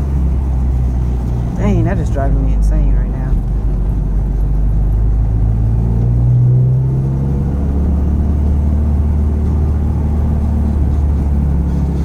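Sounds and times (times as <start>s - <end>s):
car engine running: 0.0s - 12.0s
road noise rumble: 0.0s - 12.0s.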